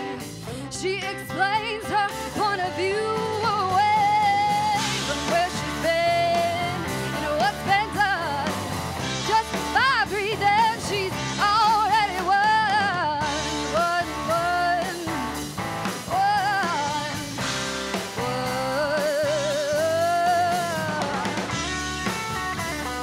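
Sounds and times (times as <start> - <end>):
woman singing with vibrato: 0.0 - 15.4, 16.0 - 17.5, 18.1 - 21.5
bass guitar: 0.0 - 23.0
drum kit: 0.0 - 23.0
electric guitar: 0.0 - 23.0.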